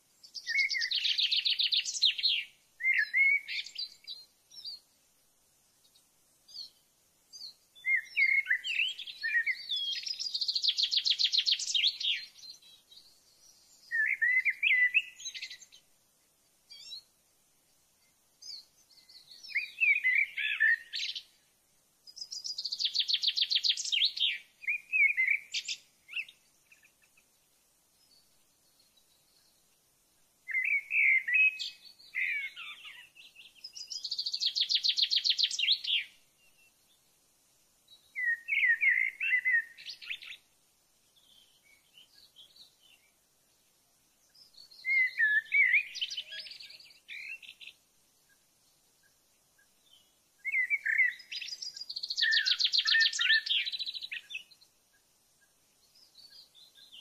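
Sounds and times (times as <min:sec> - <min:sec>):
songbird singing with trills: 0:00.2 - 0:04.9, 0:05.8 - 0:15.9, 0:16.7 - 0:17.1, 0:18.0 - 0:21.5, 0:22.1 - 0:27.3, 0:30.4 - 0:37.1, 0:37.8 - 0:43.5, 0:44.2 - 0:57.0.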